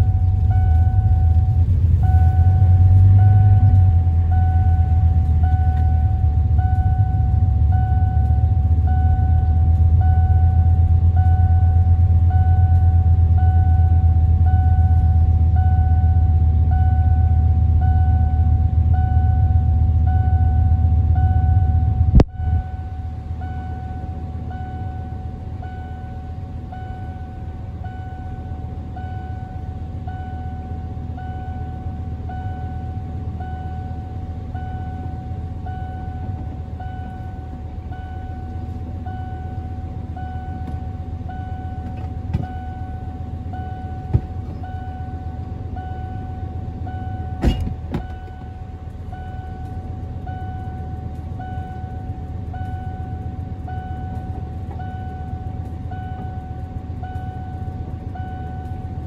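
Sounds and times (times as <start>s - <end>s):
dashboard warning chime: 0.0s - 59.0s
van engine idling: 0.0s - 59.0s.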